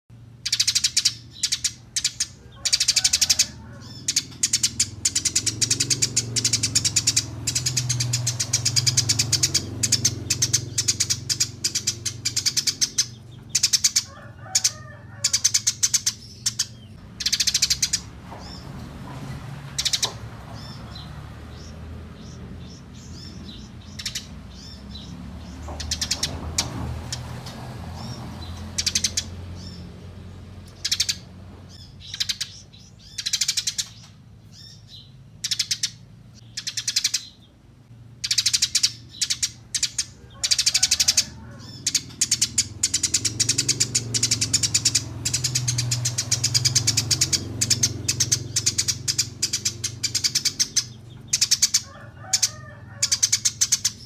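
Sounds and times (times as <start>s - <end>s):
sparrows chirping: 0.1s - 54.0s.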